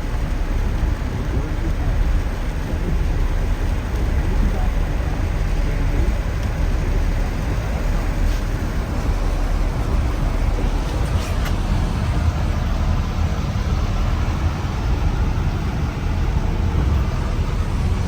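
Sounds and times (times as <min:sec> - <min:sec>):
traffic on a wet road: 0:00.0 - 0:18.0.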